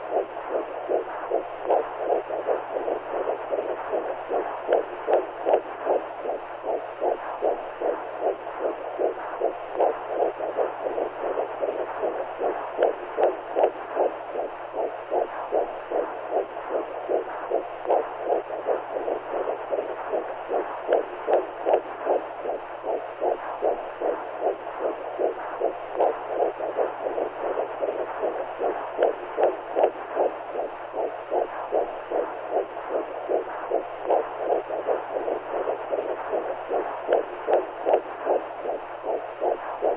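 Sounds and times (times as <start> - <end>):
constant low hum: 0.0 - 39.9
heartbeat whooshing pulses: 0.0 - 39.9.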